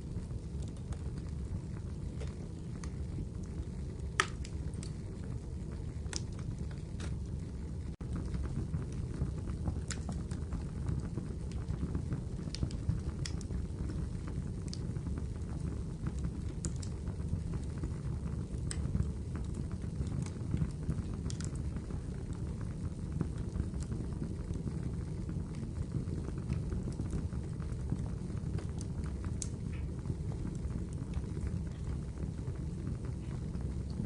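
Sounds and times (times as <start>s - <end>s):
wood fire crackling: 0.0s - 34.0s
pops and snaps of burning logs: 0.2s - 7.4s, 8.0s - 34.0s.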